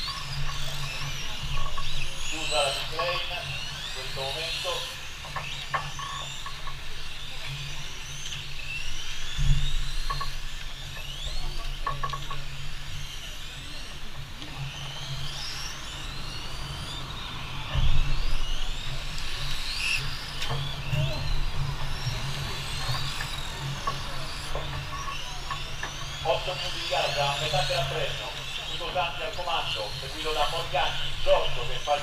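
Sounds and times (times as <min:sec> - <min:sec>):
rc car motors whining: 0:00.0 - 0:32.0
steady low hum: 0:00.0 - 0:32.0.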